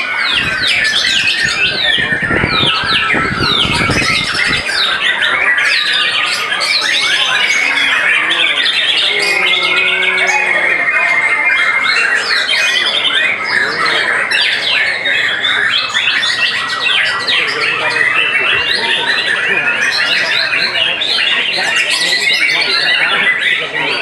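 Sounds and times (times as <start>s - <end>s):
chorus of birds singing: 0.0s - 24.0s.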